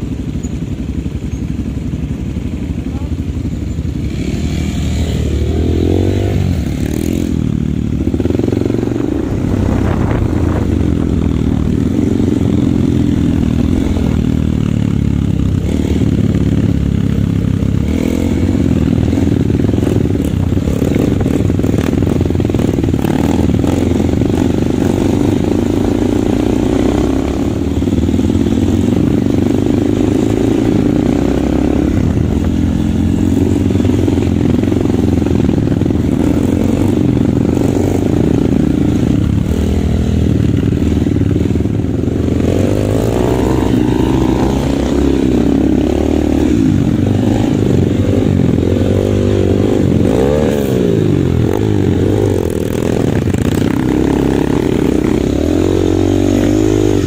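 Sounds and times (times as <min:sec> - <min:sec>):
dirt bike engines running: 0:00.0 - 0:57.0.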